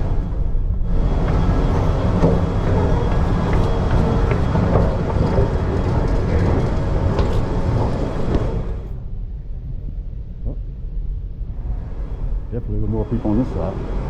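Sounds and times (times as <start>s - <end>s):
metro train rumbling and rattling: 0.0s - 14.0s.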